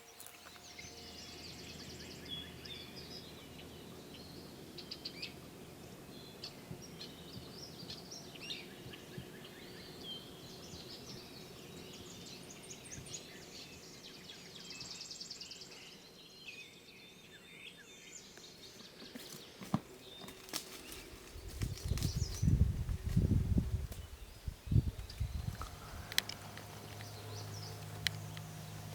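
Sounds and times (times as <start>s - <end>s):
songbird chorus: 0.0s - 28.9s.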